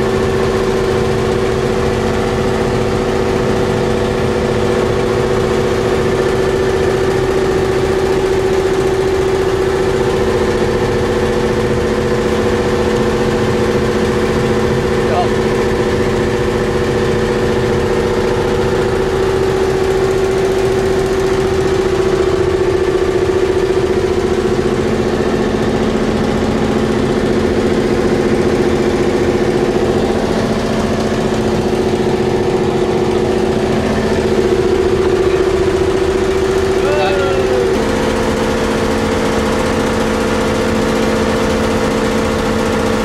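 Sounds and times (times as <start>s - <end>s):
engine droning: 0.0s - 43.0s.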